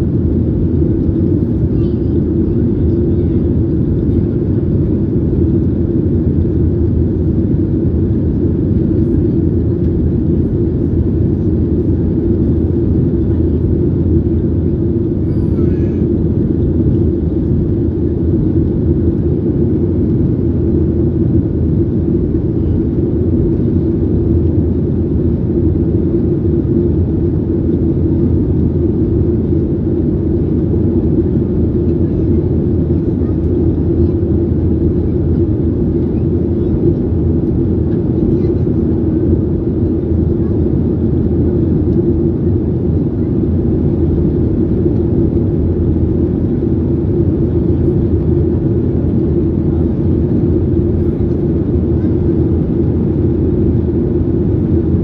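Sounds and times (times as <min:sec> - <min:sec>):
airplane cabin drone: 0:00.0 - 0:55.0
jet engines rumbling: 0:00.0 - 0:55.0.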